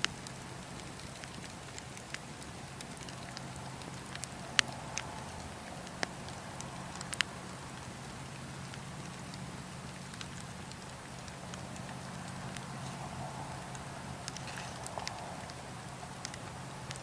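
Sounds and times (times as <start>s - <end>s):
burning wood popping: 0.0s - 17.0s
wood fire crackling: 0.0s - 17.0s
steady low hum: 1.4s - 17.0s.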